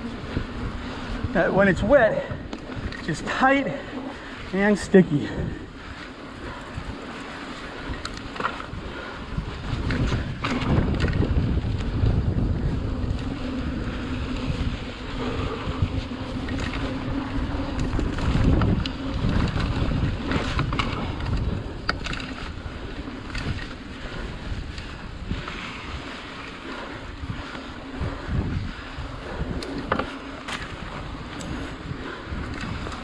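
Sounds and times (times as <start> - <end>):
bike clicks and rattles: 0.0 - 33.0
bike tyre noise: 0.0 - 33.0
wind buffeting microphone: 0.0 - 33.0.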